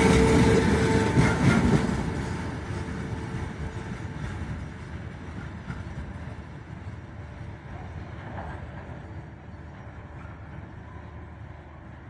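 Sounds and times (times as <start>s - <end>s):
freight train wagons rumbling: 0.0s - 12.0s.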